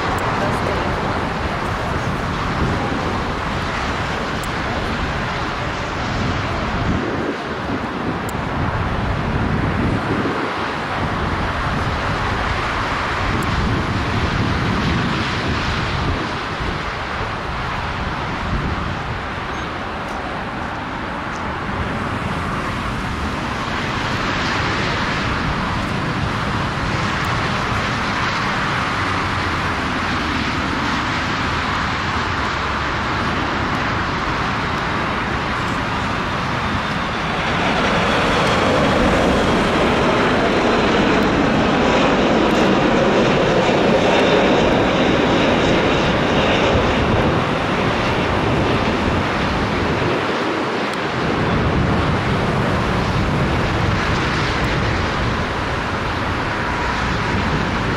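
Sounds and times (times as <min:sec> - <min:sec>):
jet engine roar: 0:00.0 - 0:57.9.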